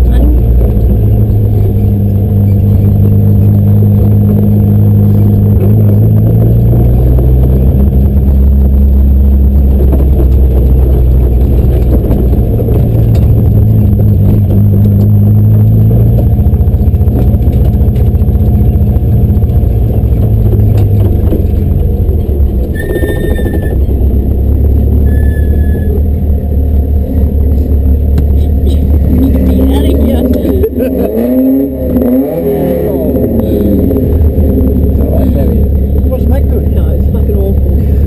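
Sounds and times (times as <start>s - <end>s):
race car engine from inside cabin: 0.0s - 38.0s.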